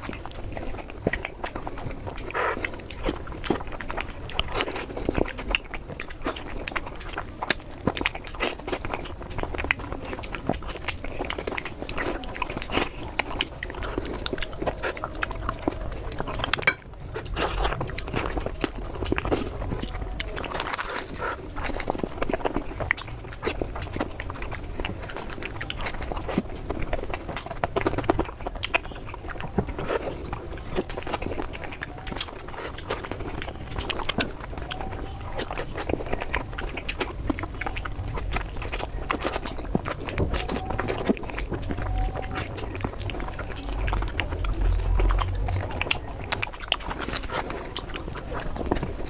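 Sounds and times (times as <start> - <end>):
chewing and wet mouth smacks: 0.0 - 49.0.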